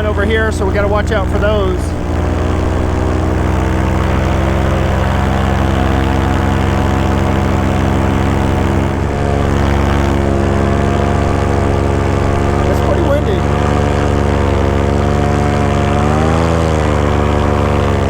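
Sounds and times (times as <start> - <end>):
small aircraft engine and propeller: 0.0 - 18.0.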